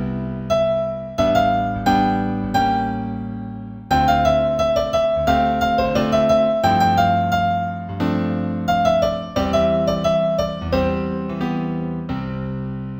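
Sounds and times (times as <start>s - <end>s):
piano melody over chords: 0.0s - 12.9s.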